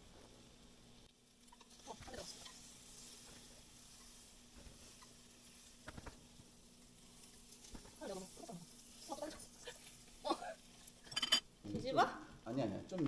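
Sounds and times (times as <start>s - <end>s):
faint sizzling on a hot plate: 0.0s - 13.0s.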